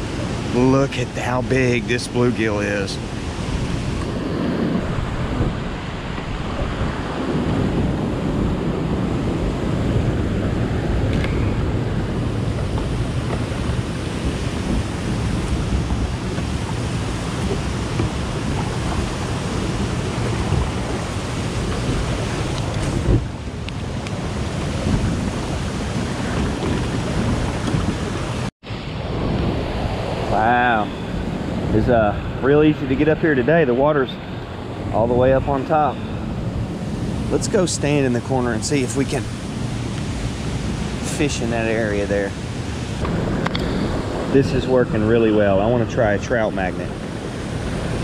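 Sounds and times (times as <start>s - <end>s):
rushing turbulent water roar: 0.0s - 48.0s
wind on the microphone: 0.0s - 48.0s.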